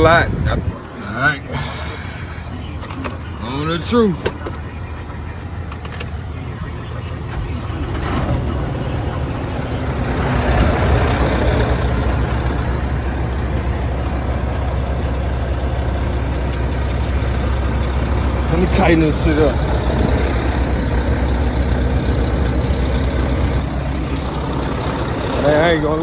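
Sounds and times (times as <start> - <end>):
high whine: 0.0 - 26.0
truck diesel engine running: 0.0 - 26.0.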